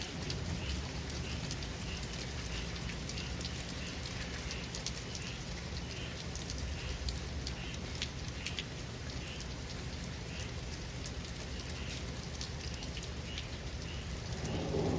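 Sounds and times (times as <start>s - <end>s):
raindrops ticking close by: 0.0s - 14.9s
steady rain falling: 0.0s - 14.9s.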